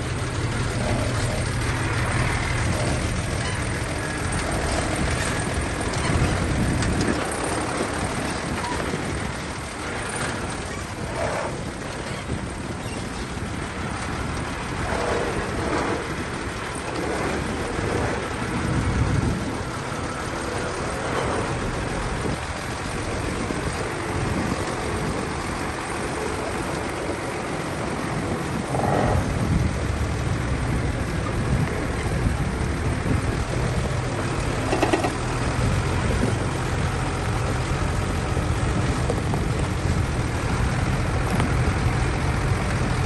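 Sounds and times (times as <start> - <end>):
bulldozer diesel engine: 0.0 - 43.0.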